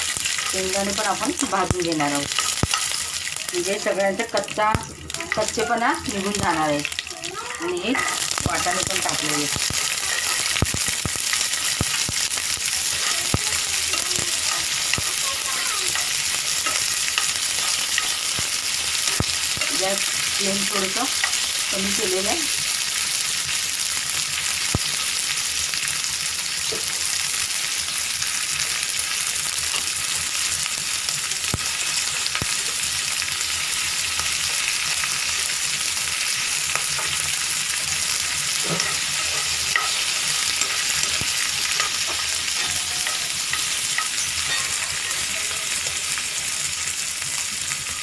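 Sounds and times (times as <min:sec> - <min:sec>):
food sizzling in hot oil: 0:00.0 - 0:48.0.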